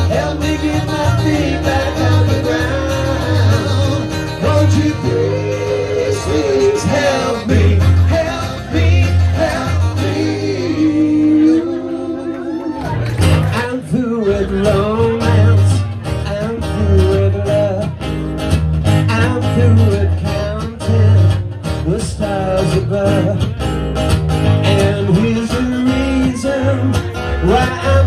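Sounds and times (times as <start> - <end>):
man singing into a microphone: 0.0 - 18.2, 19.0 - 23.6, 24.5 - 28.0
electric bass: 0.0 - 28.0
strummed acoustic guitar: 0.0 - 28.0.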